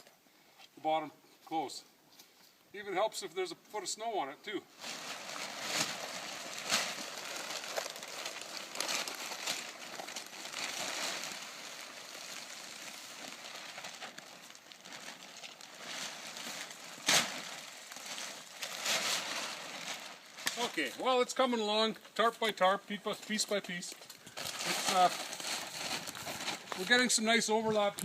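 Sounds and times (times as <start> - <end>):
tarps rustling and crinkling: 4.5 - 28.0.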